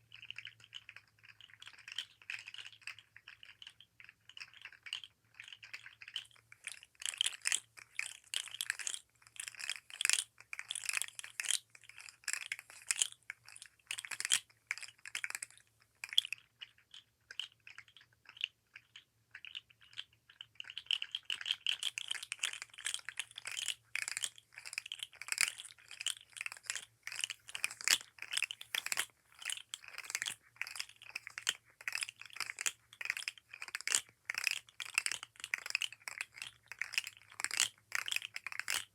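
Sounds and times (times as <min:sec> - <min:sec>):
plastic toy segments clicking: 0:00.2 - 0:38.9.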